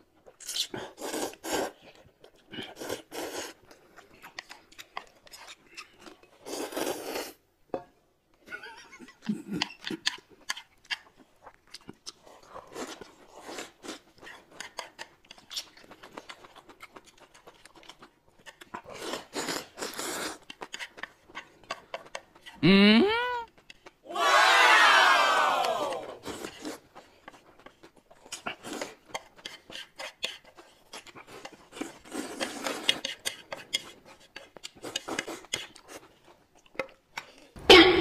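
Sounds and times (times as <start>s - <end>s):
chewing and crunching: 0.1s - 7.1s, 8.8s - 22.6s, 23.5s - 24.0s, 25.7s - 37.6s.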